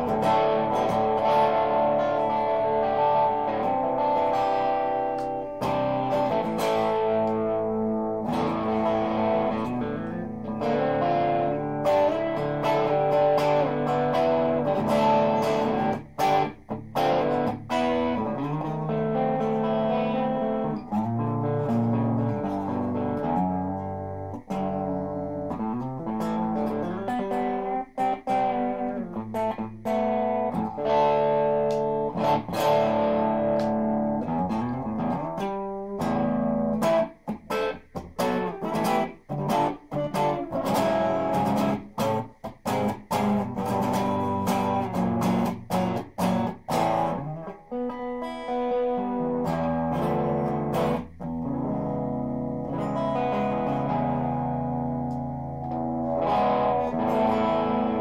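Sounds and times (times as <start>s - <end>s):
electric guitar with light drive: 0.0s - 58.0s.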